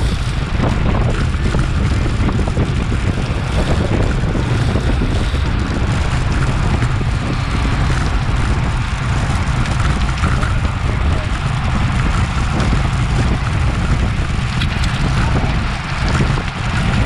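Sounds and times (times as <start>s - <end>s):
wind on camera microphone: 0.0s - 17.0s.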